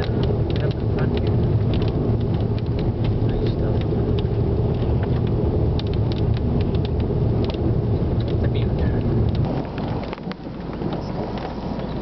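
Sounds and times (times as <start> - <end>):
raindrops ticking: 0.0 - 12.0
storm wind rumble: 0.0 - 12.0.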